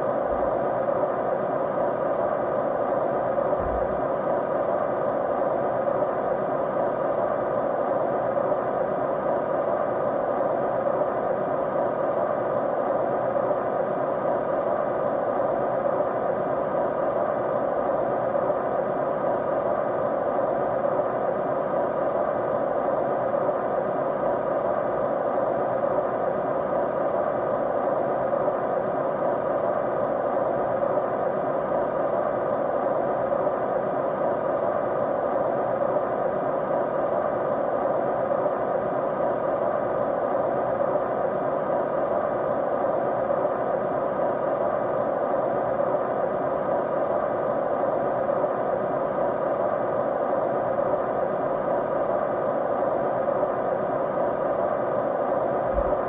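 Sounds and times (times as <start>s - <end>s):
faint steady hum: 0.0s - 56.0s
steady white noise: 0.0s - 56.0s.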